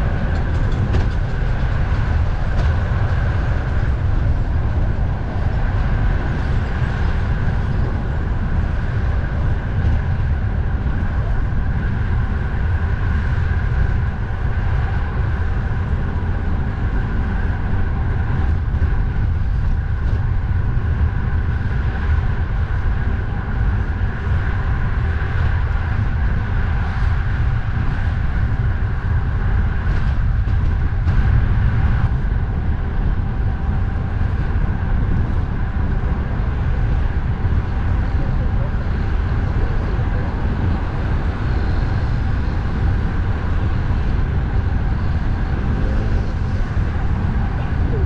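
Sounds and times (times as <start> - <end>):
road and traffic noise: 0.0 - 48.0
wind rumble on microphone: 0.0 - 48.0.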